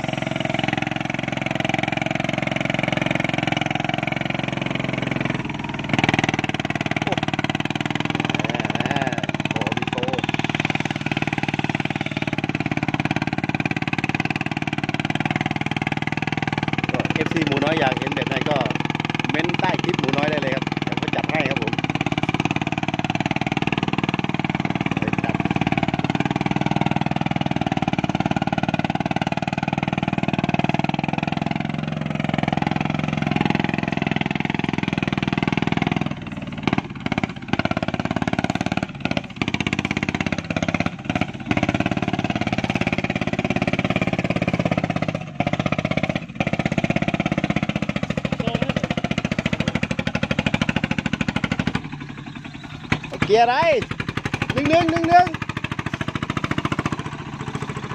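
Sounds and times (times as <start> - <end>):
truck engine running: 0.0 - 57.9.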